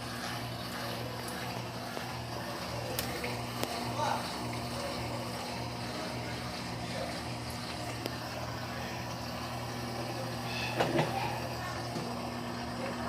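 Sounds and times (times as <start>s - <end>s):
washing machine motor hum: 0.0s - 13.0s
water sloshing in washer: 0.0s - 13.0s.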